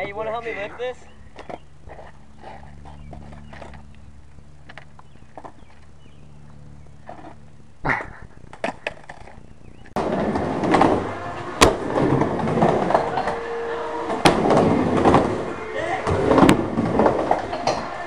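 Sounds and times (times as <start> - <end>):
skateboard wheel rumble: 1.4 - 18.0.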